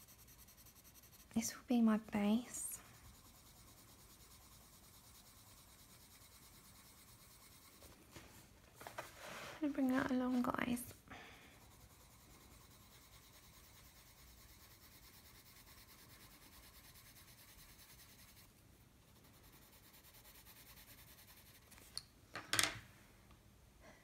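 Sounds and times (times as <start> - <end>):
pencil scratching on paper: 0.0 - 8.0, 9.7 - 21.9.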